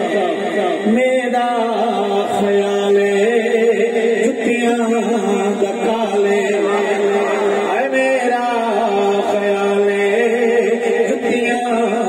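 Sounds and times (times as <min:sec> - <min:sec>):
man chanting devotional poem: 0:00.0 - 0:12.0.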